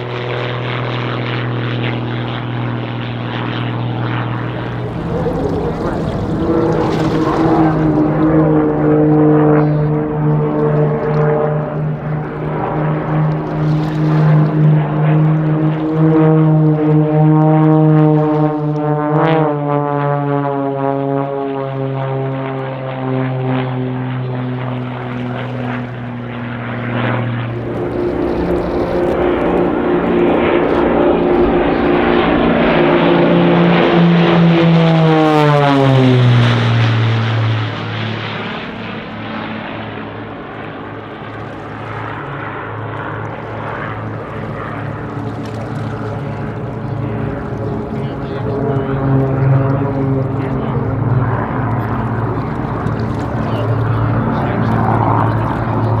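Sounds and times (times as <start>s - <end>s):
propeller aircraft droning overhead: 0.0s - 56.0s.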